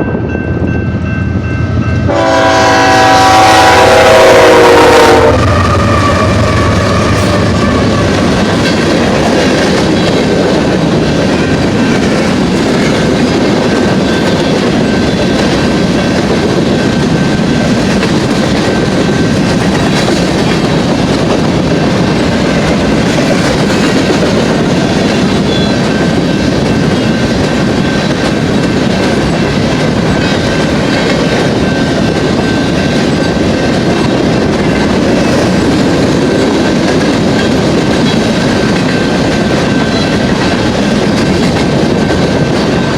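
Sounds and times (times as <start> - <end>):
train wheels rumbling on rail: 0.0 - 42.9
clickety-clack over rail joints: 5.6 - 42.9.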